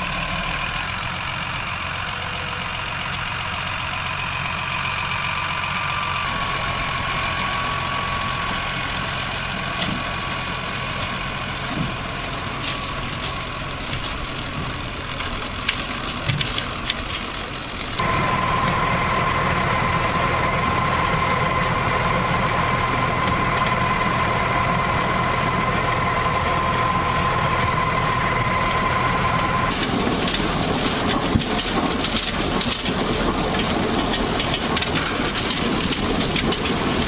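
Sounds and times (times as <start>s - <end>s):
tractor engine running: 0.0s - 37.0s
high machinery whine: 5.1s - 37.0s.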